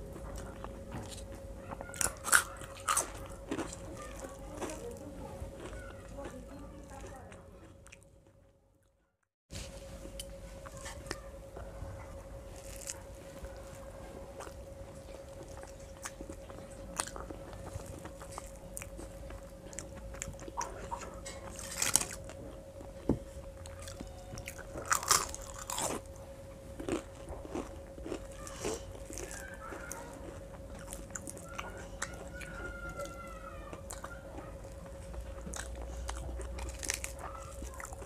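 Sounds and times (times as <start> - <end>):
faint steady hum: 0.0 - 38.0
mouth chewing and biting: 0.1 - 8.4, 12.6 - 23.0, 23.6 - 26.1, 26.8 - 38.0.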